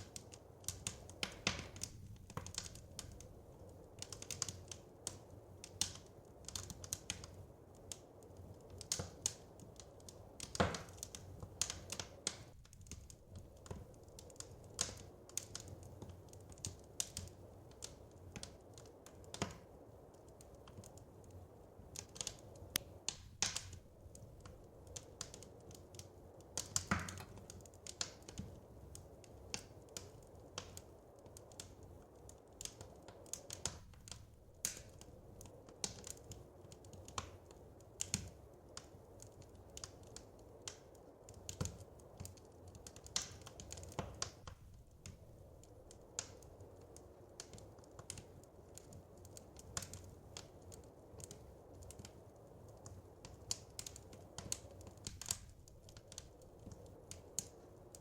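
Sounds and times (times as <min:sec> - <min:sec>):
faint low fire rumble: 0:00.0 - 0:58.0
wood fire crackling: 0:00.0 - 0:58.0.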